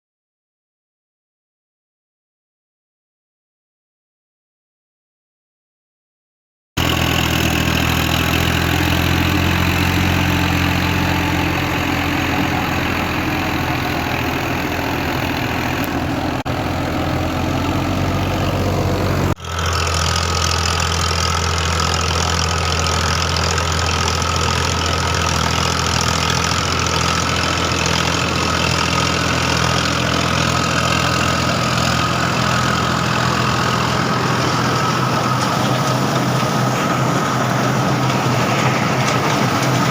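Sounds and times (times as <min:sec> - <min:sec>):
tractor engine drone: 0:06.8 - 0:39.9.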